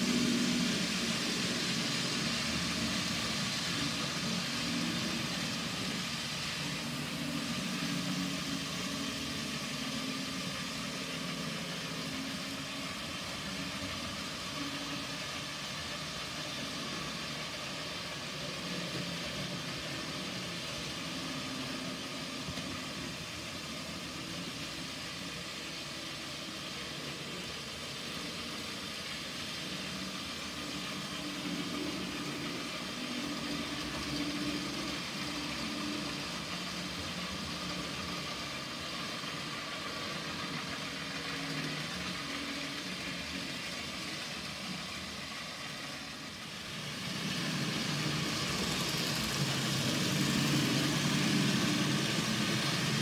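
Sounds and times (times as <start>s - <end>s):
model trains whirring on rails: 0.0s - 53.0s.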